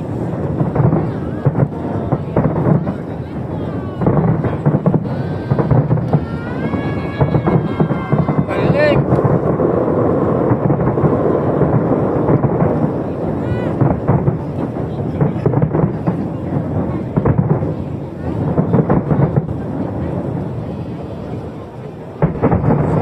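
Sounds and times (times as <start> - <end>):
crowd voices: 0.0 - 23.0
firework whistling glides: 0.0 - 23.0
fireworks booming and crackling: 0.0 - 23.0.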